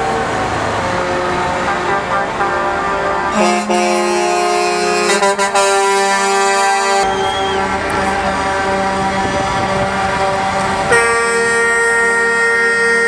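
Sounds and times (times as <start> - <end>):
truck air horns blowing: 0.7 - 13.0.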